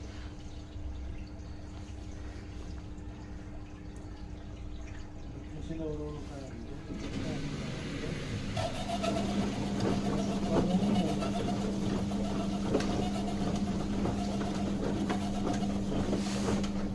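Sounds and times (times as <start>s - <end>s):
washing machine motor humming: 0.0s - 16.9s.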